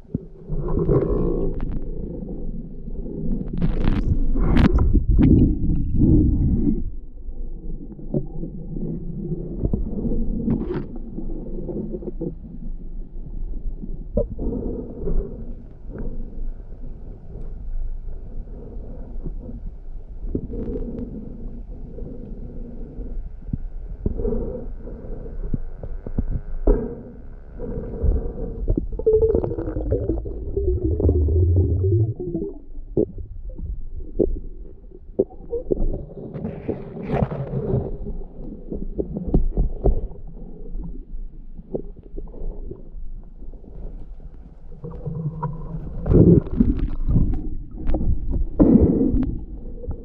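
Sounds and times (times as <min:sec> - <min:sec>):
muffled underwater rumble: 0:00.0 - 0:50.0.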